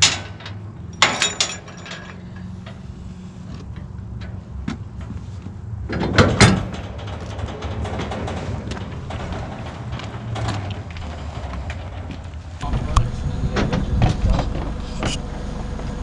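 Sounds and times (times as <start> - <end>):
trailer hitch metal clanks: 0.0 - 15.3
steady low hum: 0.0 - 16.0.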